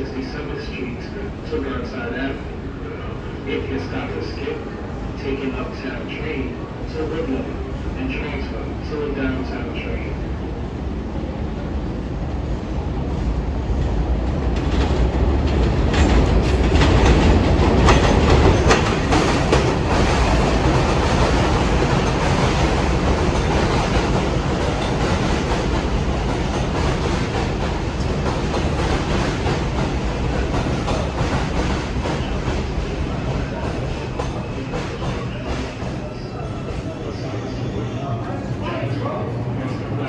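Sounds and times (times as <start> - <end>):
subway train rumble and wheel clatter: 0.0 - 40.0.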